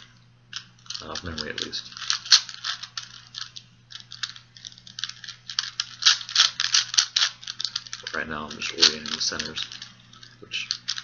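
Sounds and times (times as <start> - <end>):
plastic puzzle cube clicking: 0.0 - 11.0.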